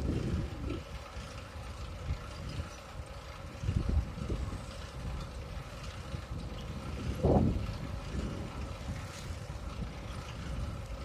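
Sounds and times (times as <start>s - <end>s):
bicycle tyres on road: 0.0s - 11.0s
wind on microphone: 0.0s - 11.0s.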